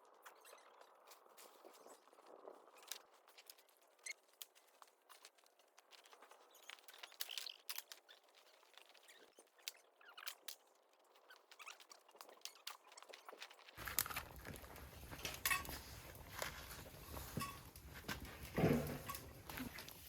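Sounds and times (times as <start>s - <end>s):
fire crackling in a wood stove: 0.0s - 20.0s.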